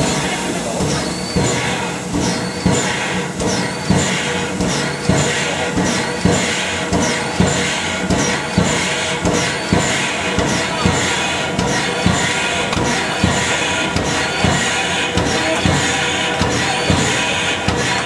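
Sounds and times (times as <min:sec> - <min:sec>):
steam locomotive hiss and clatter: 0:00.0 - 0:18.0.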